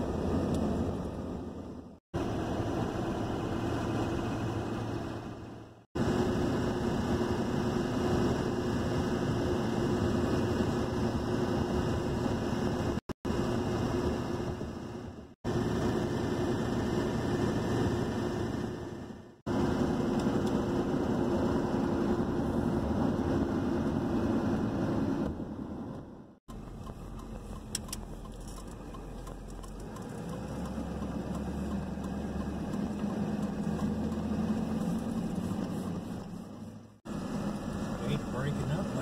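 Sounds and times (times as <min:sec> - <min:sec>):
truck cab engine and tyre drone: 0:00.0 - 0:39.0.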